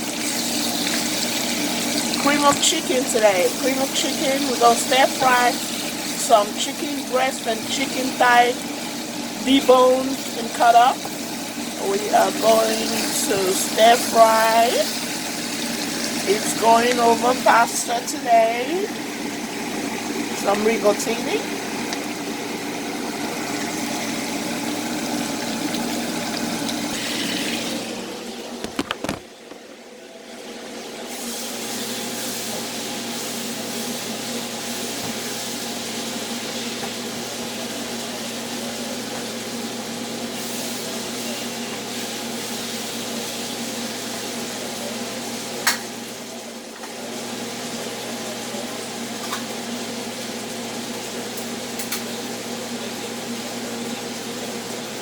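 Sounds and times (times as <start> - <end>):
food sizzling on stove: 0.0 - 29.6, 30.3 - 55.0.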